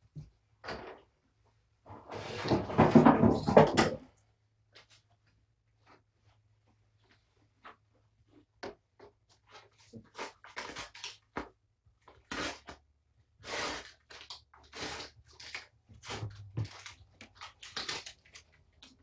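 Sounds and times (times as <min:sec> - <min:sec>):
rustling and scraping of handled objects: 0:00.2 - 0:19.0.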